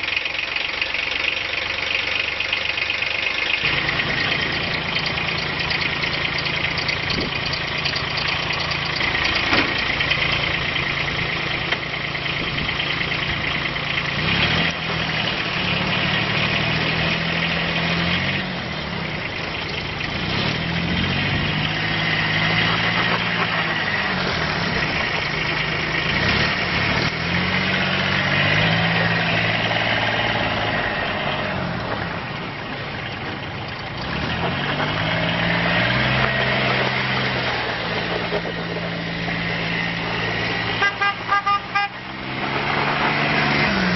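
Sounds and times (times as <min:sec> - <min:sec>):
diesel engine idling and revving: 0:00.0 - 0:43.9.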